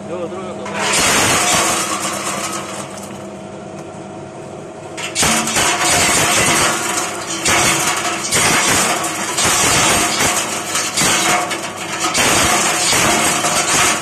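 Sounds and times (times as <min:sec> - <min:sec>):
machine mechanical hum: 0:00.0 - 0:14.0
nut shells rattling in metal chute: 0:00.7 - 0:03.1, 0:05.0 - 0:14.0.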